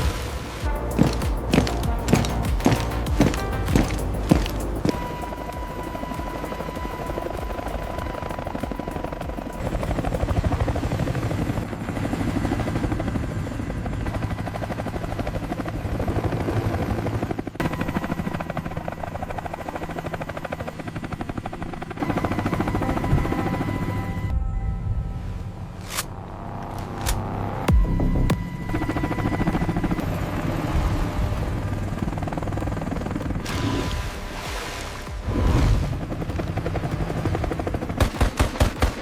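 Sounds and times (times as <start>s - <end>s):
helicopter rotor blades chopping: 0.0s - 24.2s, 26.1s - 39.0s
thin steady whine: 0.0s - 38.0s.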